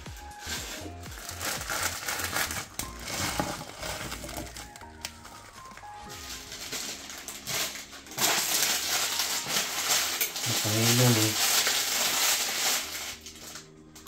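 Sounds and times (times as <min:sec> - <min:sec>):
plastic sachets crinkling: 0:00.2 - 0:14.0.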